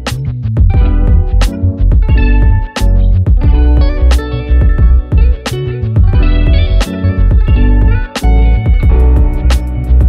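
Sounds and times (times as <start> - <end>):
guitar: 0.0 - 10.0
heavy bass line: 0.0 - 10.0
steady drum beat: 0.0 - 10.0.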